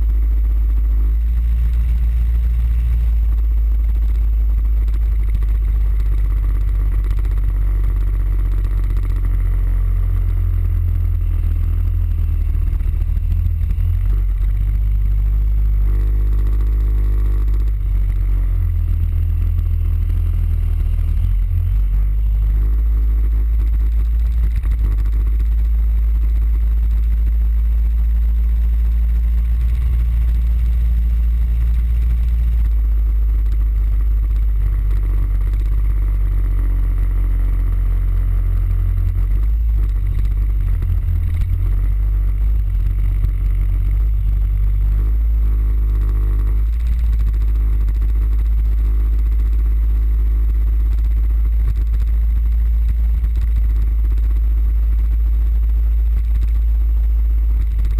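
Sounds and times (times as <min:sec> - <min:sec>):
scooter engine running: 0:00.0 - 0:56.8.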